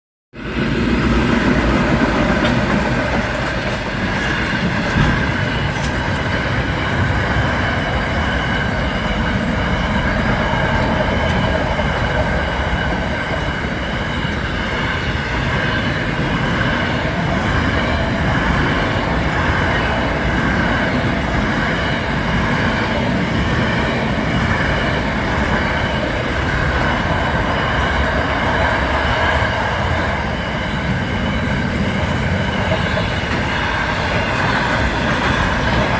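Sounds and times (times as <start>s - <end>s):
train wheels rolling on rails: 0.4s - 35.9s.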